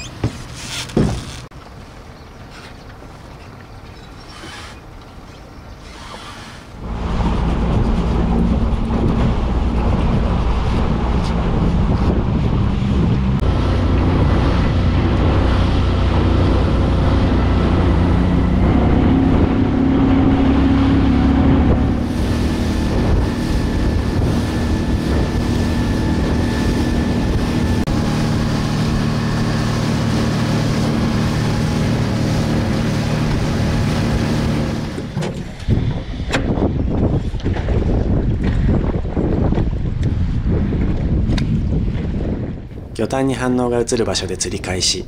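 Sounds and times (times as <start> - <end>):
water rushing past hull: 5.8 - 45.0
motorboat engine running: 6.7 - 42.9
wind buffeting microphone: 6.8 - 45.0.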